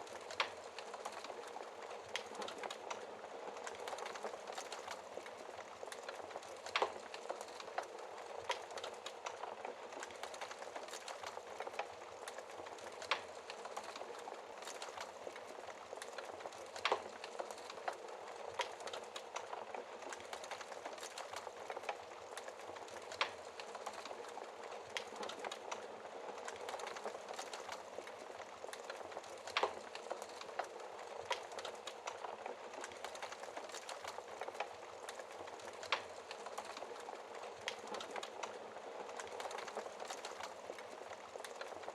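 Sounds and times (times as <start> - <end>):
logs crackling and popping: 0.0 - 41.9.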